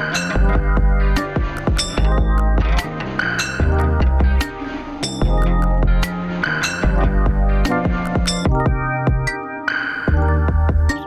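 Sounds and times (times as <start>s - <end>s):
background music with deep bass: 0.0s - 11.0s
sharp percussive hits: 0.0s - 11.0s.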